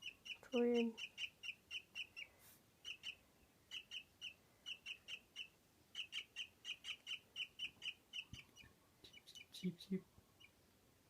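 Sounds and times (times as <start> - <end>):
baby bird chirping: 0.0 - 10.6.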